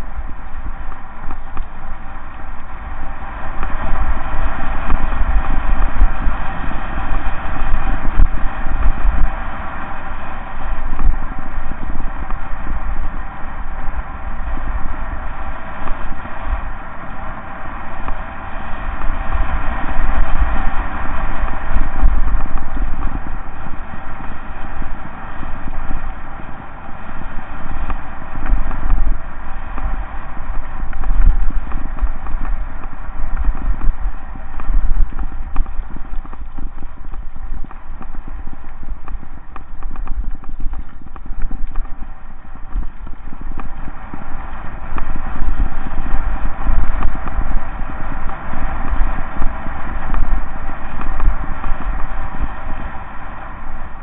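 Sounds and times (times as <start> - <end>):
bike rattling over bumps: 0.0 - 54.0
wind buffeting microphone: 0.0 - 54.0.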